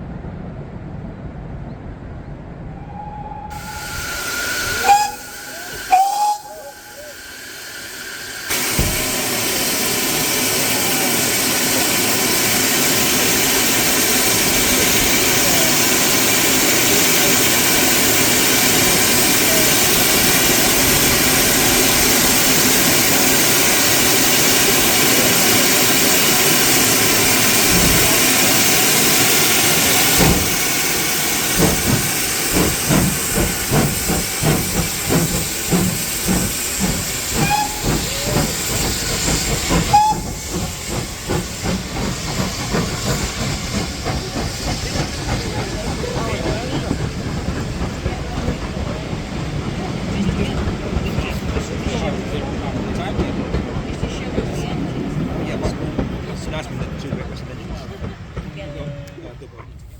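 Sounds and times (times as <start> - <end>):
steam locomotive exhaust beats: 2.7 - 59.9
steam hissing: 2.9 - 53.5.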